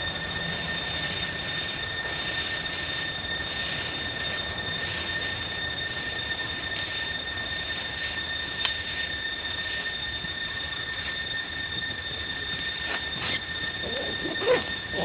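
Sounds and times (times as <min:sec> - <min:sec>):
high-pitched whine: 0:00.0 - 0:15.0
short wavering squeak: 0:02.6 - 0:15.0.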